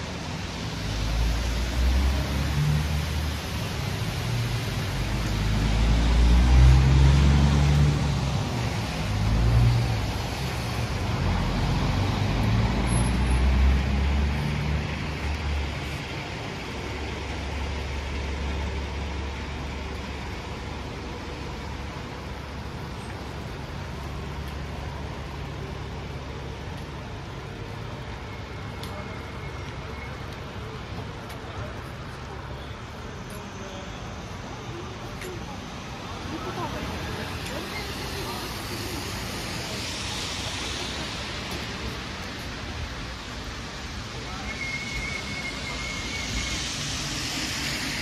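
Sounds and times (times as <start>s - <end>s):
bus engine rumbling: 0.0s - 48.0s
traffic hum: 0.0s - 48.0s
tyre hiss on wet street: 0.0s - 48.0s.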